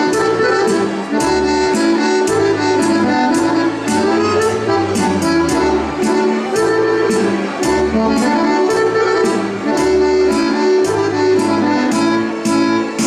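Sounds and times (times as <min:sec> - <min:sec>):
accordion folk dance music: 0:00.0 - 0:13.0.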